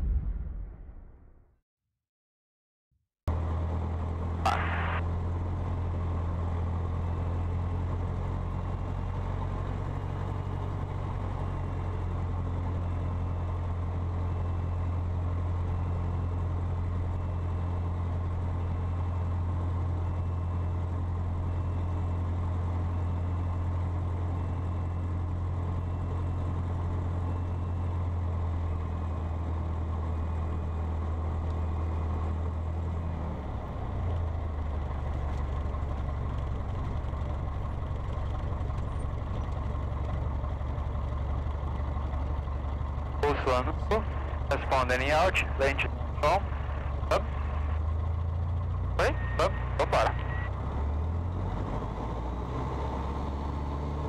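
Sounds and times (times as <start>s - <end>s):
airplane engine droning: 3.5s - 51.0s.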